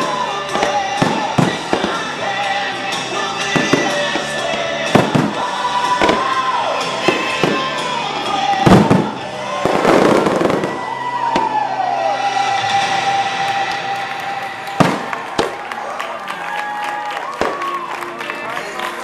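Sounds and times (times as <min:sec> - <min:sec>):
firework crackle: 0:00.0 - 0:07.9, 0:08.5 - 0:16.0
music: 0:00.0 - 0:19.0.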